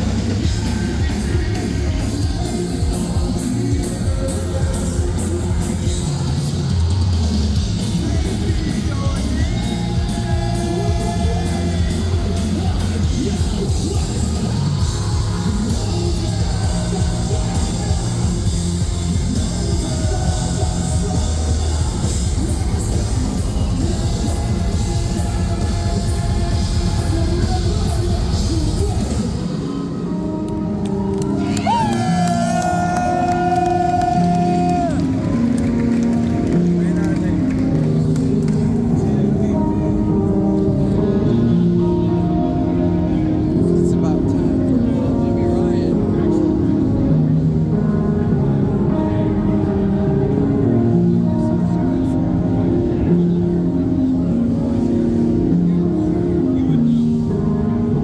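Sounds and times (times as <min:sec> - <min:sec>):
bass guitar: 0:00.0 - 0:58.0
distorted guitars: 0:00.0 - 0:58.0
vocals: 0:00.0 - 0:58.0.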